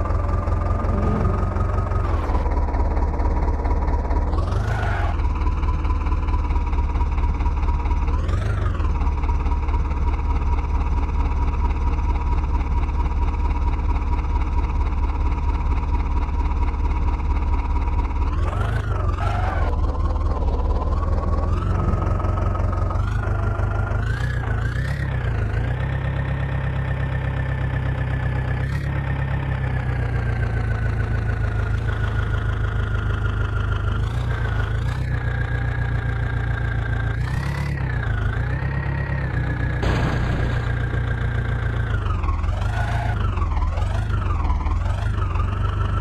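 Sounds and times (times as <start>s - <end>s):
heavy machinery diesel engine: 0.0s - 46.0s.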